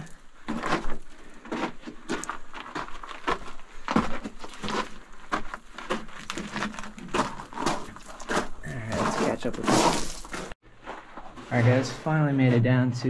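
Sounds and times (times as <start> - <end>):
footsteps crunching on gravel: 0.0 - 11.6.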